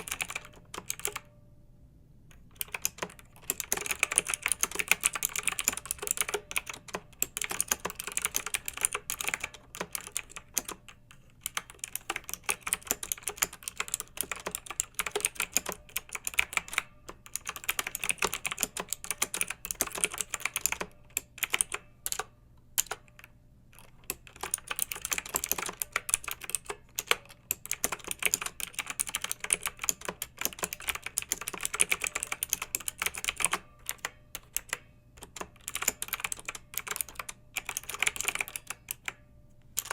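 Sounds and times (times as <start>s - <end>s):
clicky mechanical keyboard typing: 0.0s - 1.3s, 2.3s - 39.9s.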